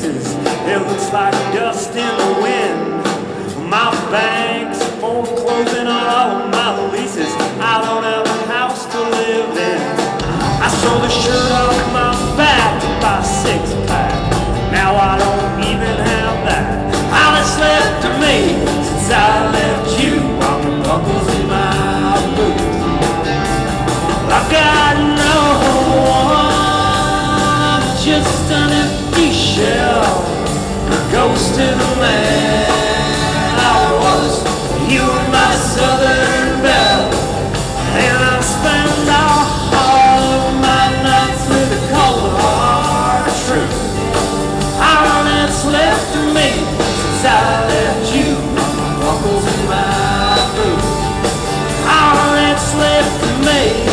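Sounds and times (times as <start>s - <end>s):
country song with full band: 0.0s - 53.9s
voices singing: 0.0s - 53.9s.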